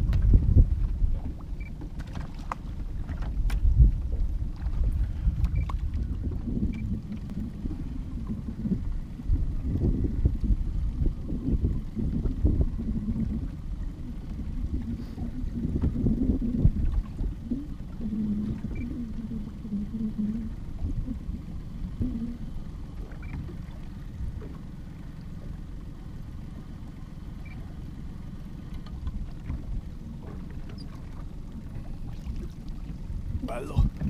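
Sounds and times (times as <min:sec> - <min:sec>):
water against boat hull: 0:00.0 - 0:34.0
wind on microphone: 0:00.0 - 0:34.0.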